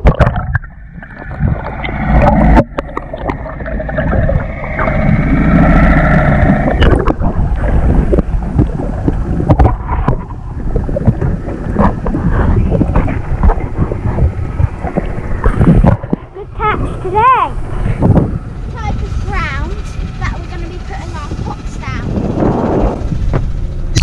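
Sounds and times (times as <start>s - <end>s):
splashing and streaming water: 0.0s - 24.0s
underwater hum: 0.0s - 24.0s
wind on microphone: 0.0s - 24.0s.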